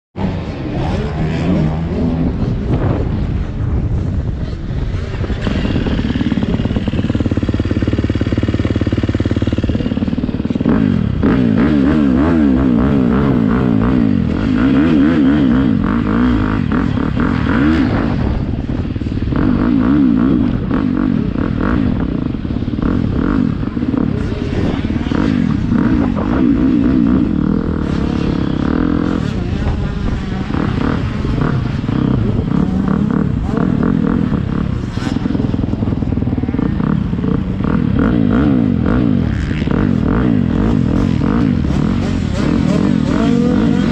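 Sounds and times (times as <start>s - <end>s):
motocross bike engine revving: 0.2s - 43.9s.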